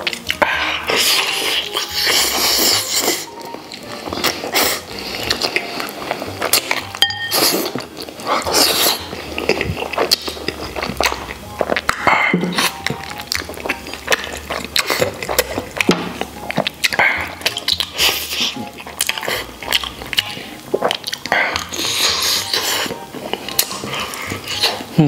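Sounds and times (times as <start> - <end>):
wet chewing and lip-smacking: 0.0 - 25.0.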